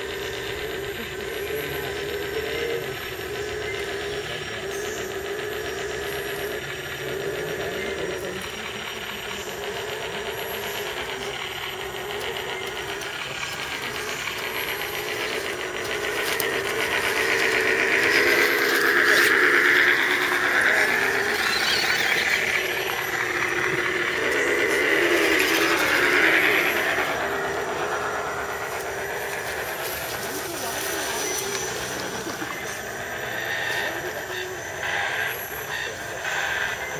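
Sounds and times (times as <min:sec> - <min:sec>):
rc truck electric motors whining: 0:00.0 - 0:36.9.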